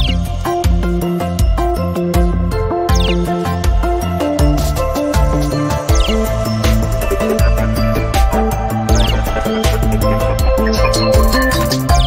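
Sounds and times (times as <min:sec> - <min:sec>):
theme music with drum beat: 0:00.0 - 0:12.0.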